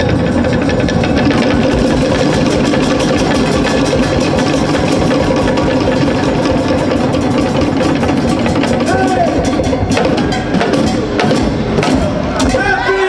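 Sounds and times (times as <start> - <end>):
steady low tone: 0.0 - 12.4
fast drum roll: 0.0 - 13.0.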